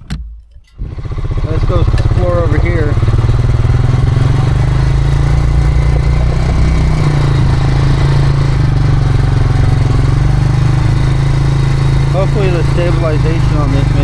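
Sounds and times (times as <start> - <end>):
quad engine running: 0.8 - 14.0.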